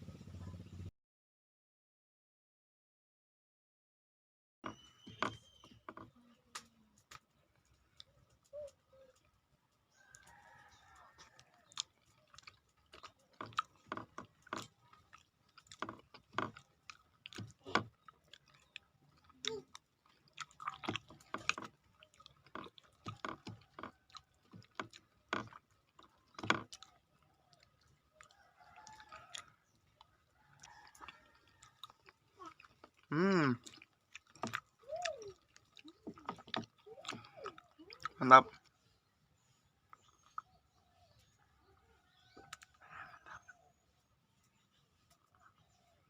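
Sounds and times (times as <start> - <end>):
wet chewing and lip-smacking: 4.7 - 46.0.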